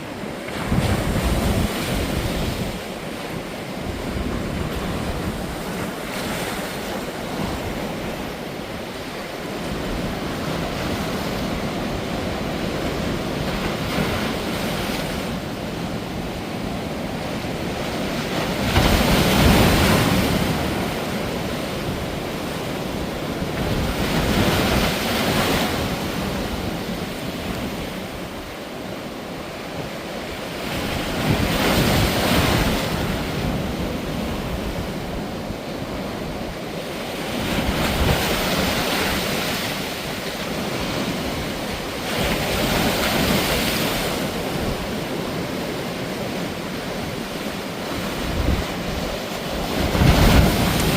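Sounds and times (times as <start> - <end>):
sea waves breaking: 0.0 - 50.9.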